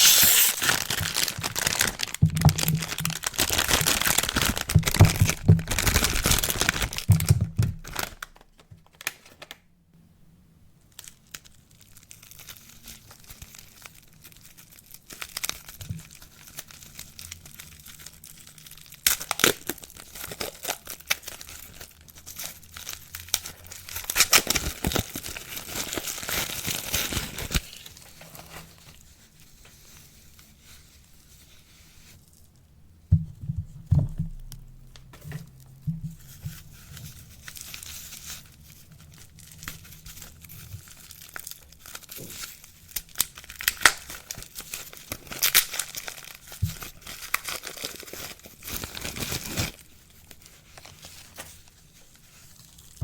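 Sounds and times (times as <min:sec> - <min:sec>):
soap wrappers crinkling: 0:00.0 - 0:09.6, 0:10.9 - 0:32.6, 0:35.5 - 0:53.0
wrapper tearing: 0:00.0 - 0:09.6, 0:10.9 - 0:29.2, 0:36.5 - 0:53.0.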